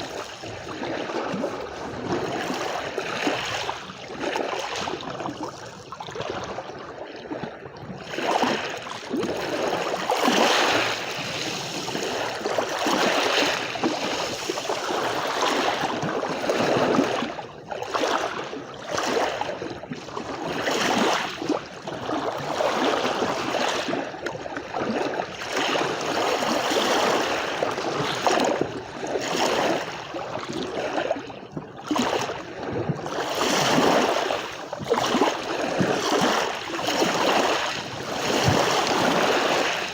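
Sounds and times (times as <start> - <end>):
sea waves washing on shore: 0.0 - 7.4, 8.0 - 19.6, 24.9 - 39.9.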